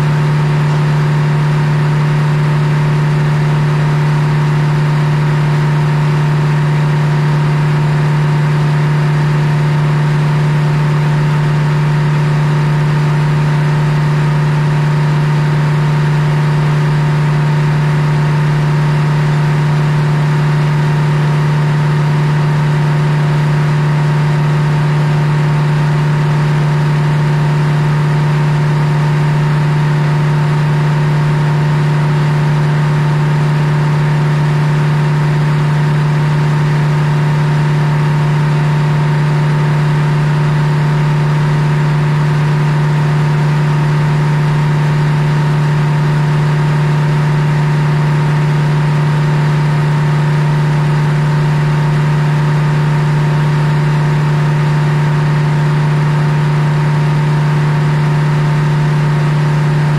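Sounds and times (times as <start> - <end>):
sawmill machine drone: 0.0 - 59.9.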